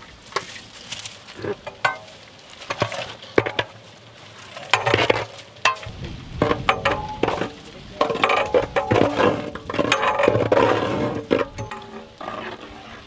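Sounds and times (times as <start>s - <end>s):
sizzling: 0.0s - 13.0s
food stirred in pot: 0.3s - 13.0s.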